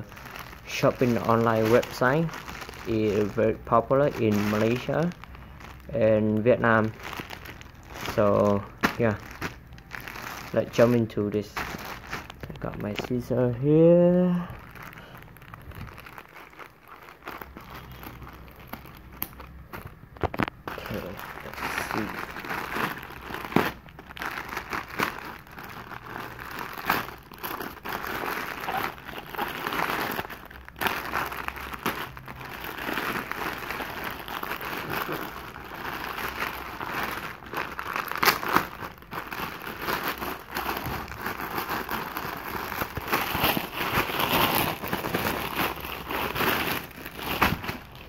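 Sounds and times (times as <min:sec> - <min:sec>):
plastic bag crinkling and rustling: 0:00.0 - 0:48.0.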